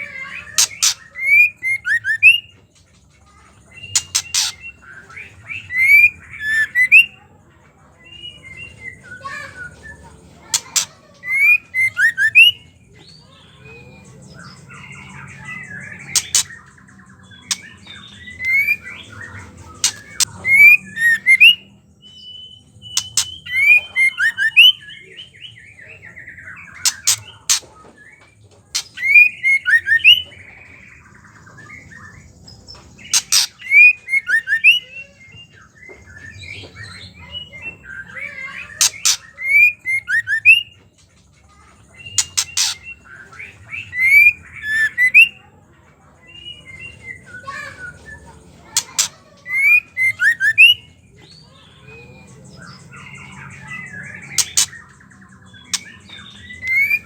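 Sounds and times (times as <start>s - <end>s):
bird harsh chattering call: 0.0s - 2.6s, 3.3s - 7.3s, 8.6s - 35.4s, 36.3s - 45.6s, 46.3s - 57.0s.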